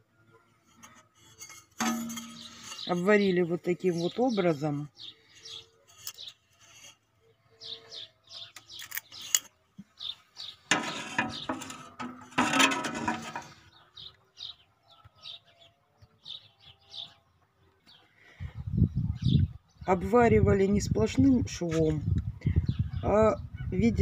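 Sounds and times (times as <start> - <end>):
small birds chirping: 2.1 - 11.8, 13.5 - 24.0.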